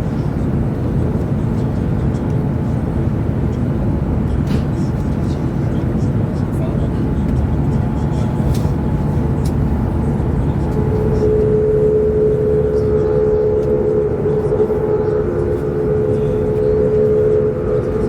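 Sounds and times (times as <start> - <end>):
steady hum tone: 0.0 - 18.0
train rumble inside carriage: 0.0 - 18.0.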